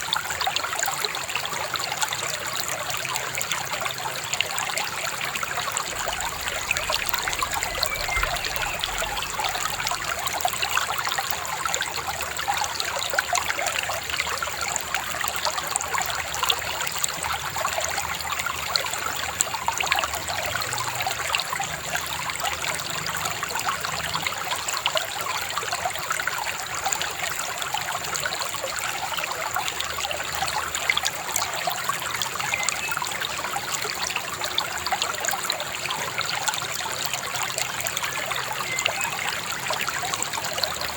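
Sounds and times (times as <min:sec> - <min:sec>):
river babbling over stones: 0:00.0 - 0:40.9.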